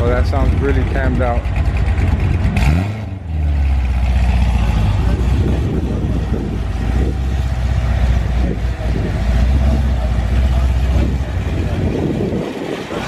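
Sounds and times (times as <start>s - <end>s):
car engine idling with choppy rumble: 0.0s - 13.0s.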